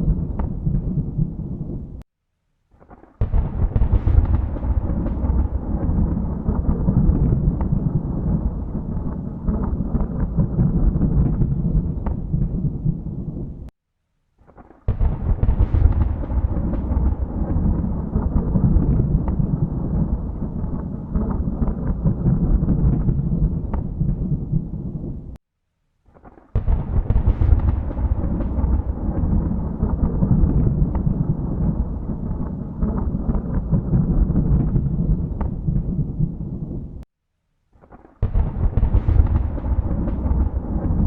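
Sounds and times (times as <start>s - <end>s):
thunder rumbling: 0.0s - 2.0s, 3.0s - 13.7s, 14.9s - 25.4s, 26.6s - 37.0s, 38.2s - 41.0s
sharp thunder crack: 2.8s - 13.7s, 14.6s - 25.4s, 26.6s - 37.0s, 38.2s - 41.0s.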